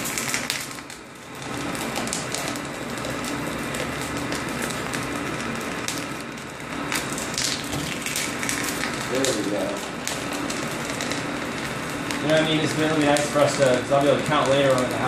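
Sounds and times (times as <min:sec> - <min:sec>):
crackling hiss of puffing corn: 0:00.0 - 0:15.0
faint machine hum: 0:00.0 - 0:15.0.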